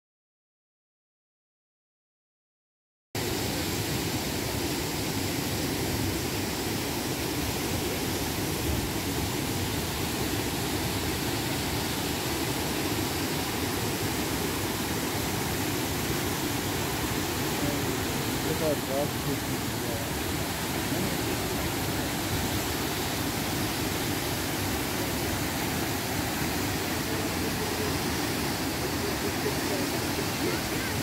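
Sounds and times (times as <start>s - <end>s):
waterfall rushing: 3.2s - 31.0s.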